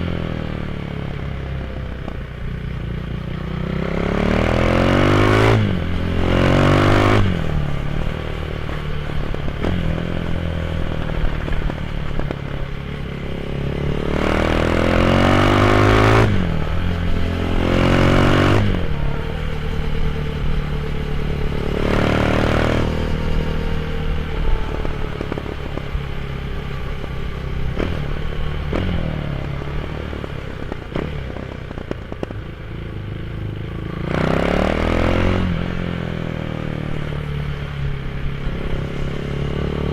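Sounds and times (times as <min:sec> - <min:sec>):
motorcycle accelerating through gears: 0:00.0 - 0:39.9.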